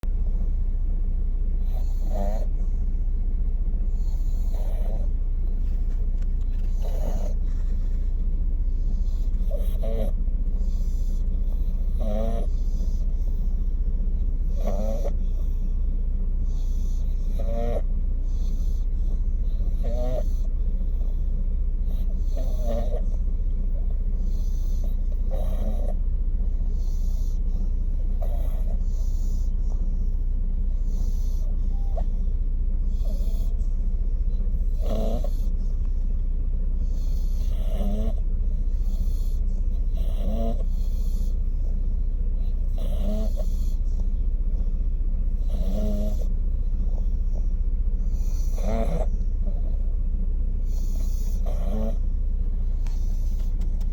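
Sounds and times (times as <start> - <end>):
dog snoring: 0.0 - 53.9
low rumble: 0.0 - 53.9.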